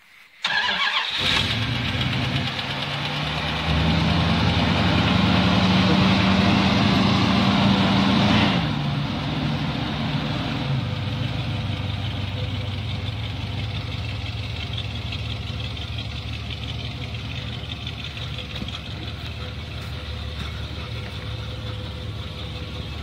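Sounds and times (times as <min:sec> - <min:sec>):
car engine starting and idling: 0:00.4 - 0:23.0.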